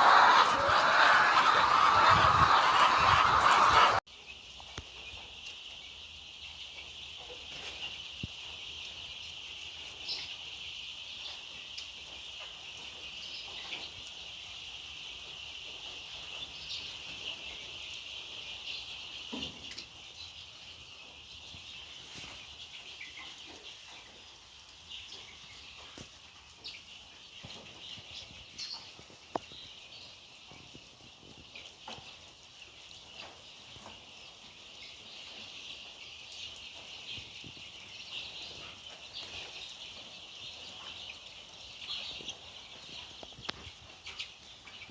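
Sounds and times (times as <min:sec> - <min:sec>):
chicks peeping in chorus: 0:00.0 - 0:44.9.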